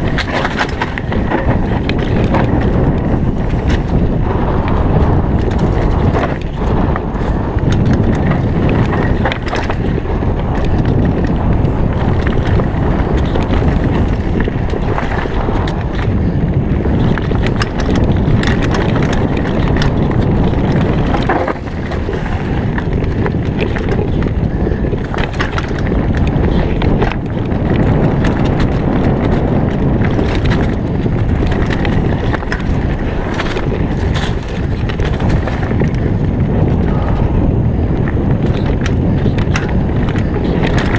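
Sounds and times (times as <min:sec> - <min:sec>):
bike chain and frame rattling: 0:00.0 - 0:40.9
tyres rolling over dirt and leaves: 0:00.0 - 0:40.9
wind rumble on microphone: 0:00.0 - 0:40.9.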